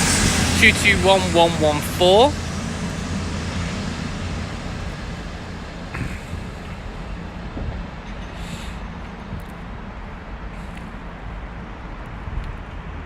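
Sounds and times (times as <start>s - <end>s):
diesel train passing: 0.0s - 13.0s.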